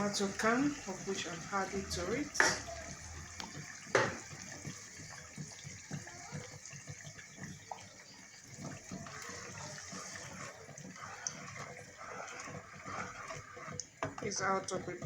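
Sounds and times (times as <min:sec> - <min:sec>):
food frying in a pot: 0:00.0 - 0:15.0.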